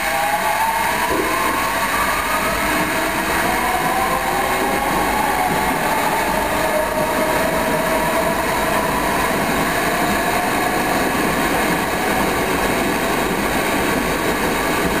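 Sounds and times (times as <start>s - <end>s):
subway train propulsion whine: 0.0s - 15.0s
train wheels rumbling on rail: 0.0s - 15.0s.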